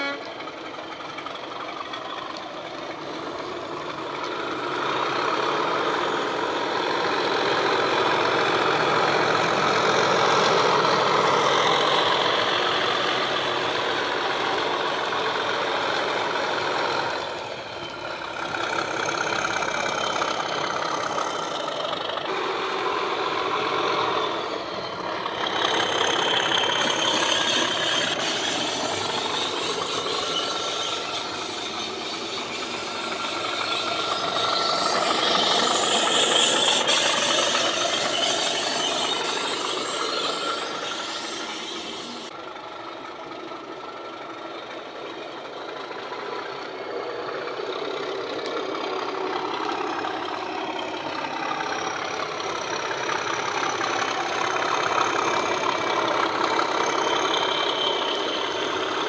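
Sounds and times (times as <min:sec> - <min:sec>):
diesel engine sound through small speakers: 0:00.0 - 0:59.0.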